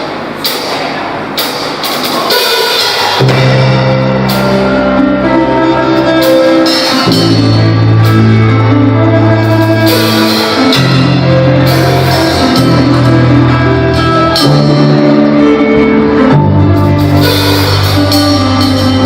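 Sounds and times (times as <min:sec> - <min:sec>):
drum kit playing: 0:00.0 - 0:19.0
held guitar chords: 0:01.3 - 0:19.0
low bass notes: 0:03.2 - 0:19.0.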